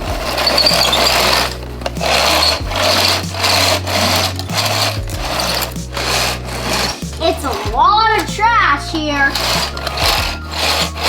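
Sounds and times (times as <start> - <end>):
paper ripping and crumpling: 0.0 - 7.8, 9.3 - 11.0.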